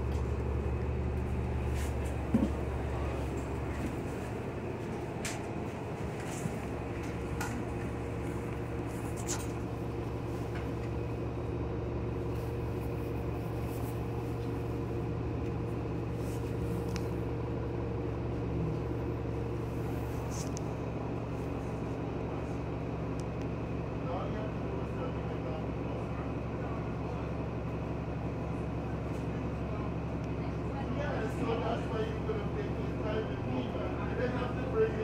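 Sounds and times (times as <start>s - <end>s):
bus engine and ventilation humming: 0.0s - 35.0s.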